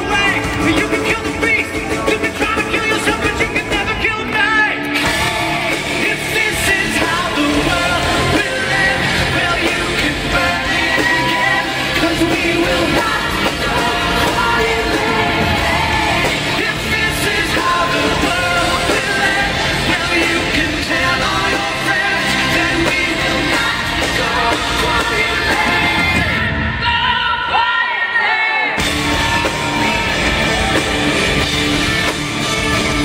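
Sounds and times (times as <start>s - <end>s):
hard rock band playing live: 0.0s - 26.9s, 28.8s - 33.0s
lead singer singing: 0.0s - 31.3s
backing singers: 0.0s - 33.0s.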